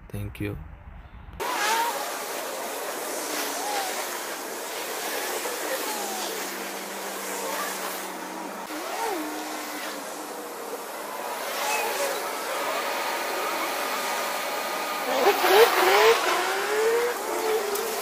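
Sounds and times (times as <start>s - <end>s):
faint engine tones: 0.0s - 18.0s
passing cars rushing: 1.4s - 18.0s.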